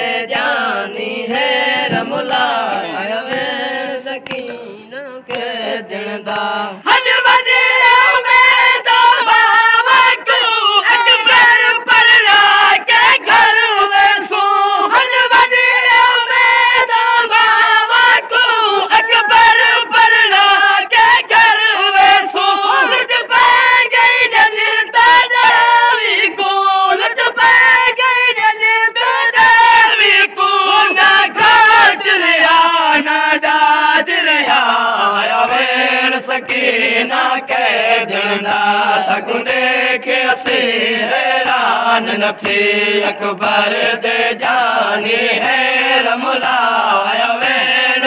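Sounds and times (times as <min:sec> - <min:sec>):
voices chanting in chorus: 0:00.0 - 0:48.0.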